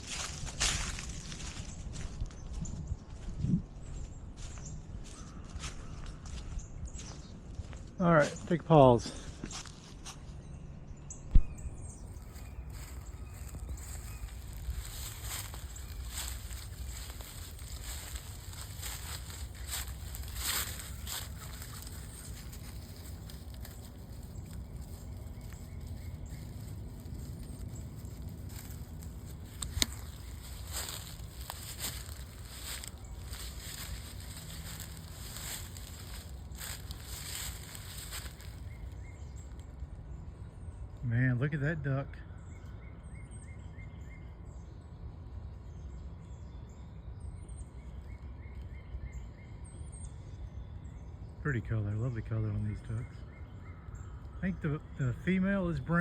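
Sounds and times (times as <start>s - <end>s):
small birds chirping: 0.0s - 56.0s
low outdoor rumble: 11.1s - 56.0s.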